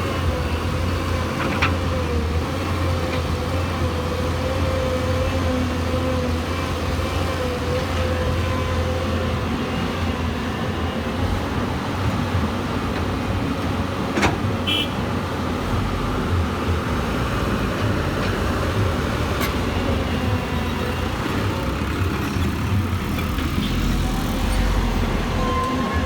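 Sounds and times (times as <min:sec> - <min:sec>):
diesel machinery running: 0:00.0 - 0:26.0.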